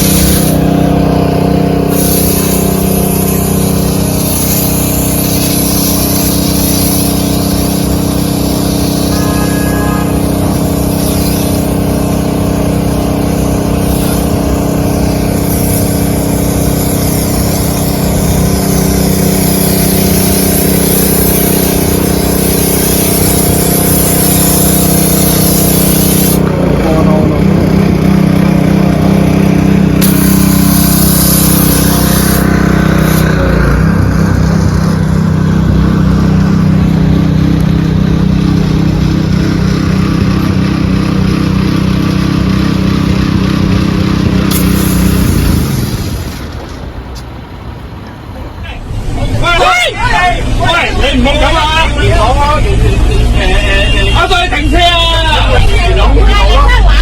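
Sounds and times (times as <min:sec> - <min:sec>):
vacuum cleaner running: 0:00.0 - 0:46.7.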